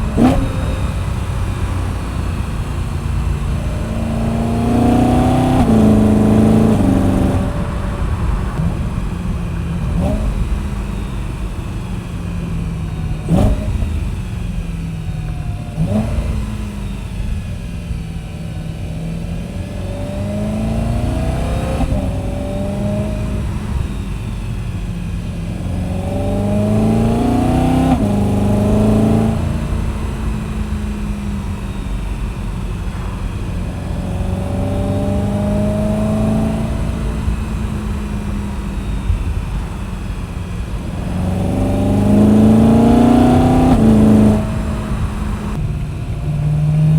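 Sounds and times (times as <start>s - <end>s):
car engine accelerating through gears: 0.0s - 46.9s.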